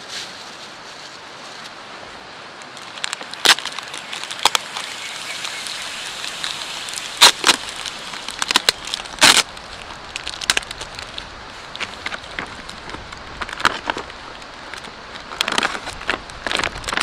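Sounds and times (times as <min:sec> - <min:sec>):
camp fire crackling and popping: 0:02.5 - 0:17.0.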